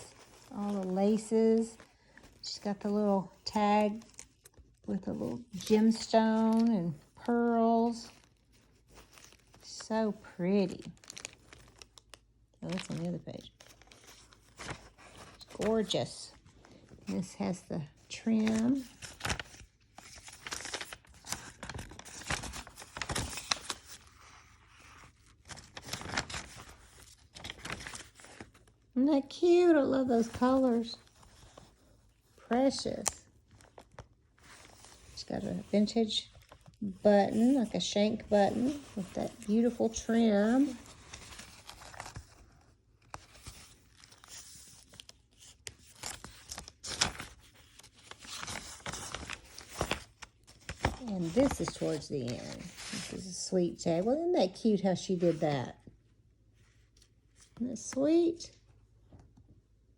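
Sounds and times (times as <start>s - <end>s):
paper pages rustling: 0.0s - 28.9s, 30.1s - 53.4s.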